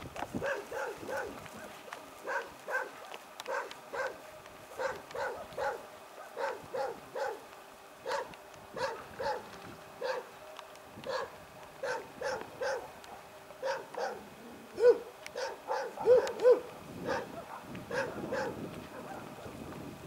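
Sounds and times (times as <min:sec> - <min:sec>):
dog barking: 0:00.4 - 0:04.2, 0:04.8 - 0:10.3, 0:11.1 - 0:19.5.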